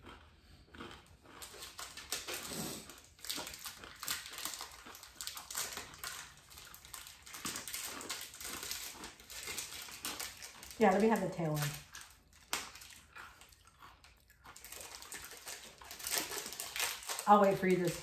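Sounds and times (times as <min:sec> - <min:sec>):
plastic wrapper crinkling and tearing: 0:01.4 - 0:18.0.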